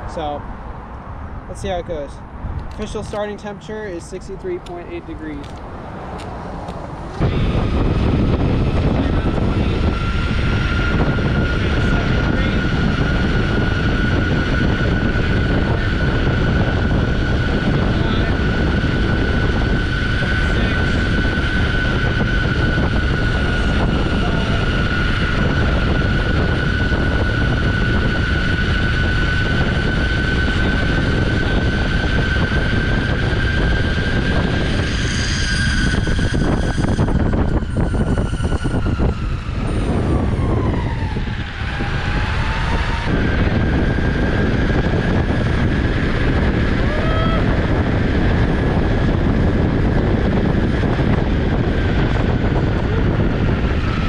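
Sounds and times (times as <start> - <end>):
wind and wheel noise: 0.0 - 54.0
electric motor whining: 6.6 - 54.0.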